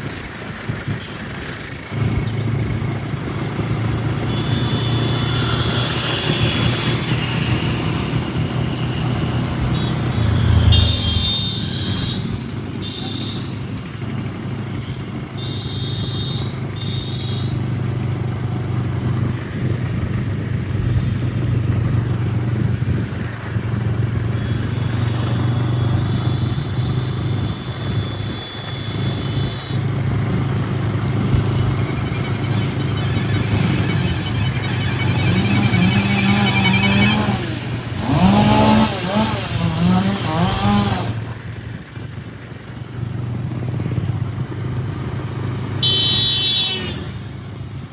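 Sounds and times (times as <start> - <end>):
vehicle engine running: 0.0 - 27.7, 28.9 - 46.4
road noise: 0.0 - 47.9.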